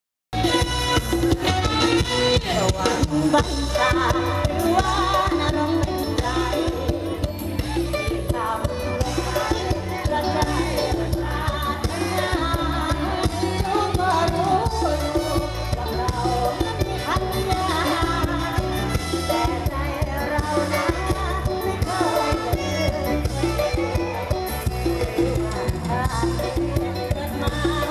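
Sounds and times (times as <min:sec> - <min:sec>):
live band music through speakers: 0:00.3 - 0:27.9.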